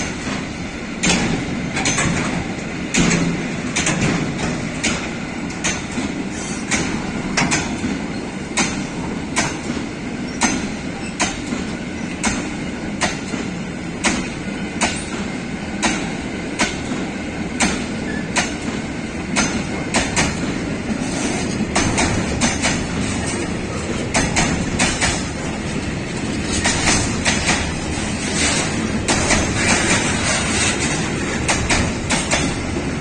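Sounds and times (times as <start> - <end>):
train wheels rumbling: 0.0 - 33.0
wheels clacking over rail joints: 0.0 - 33.0.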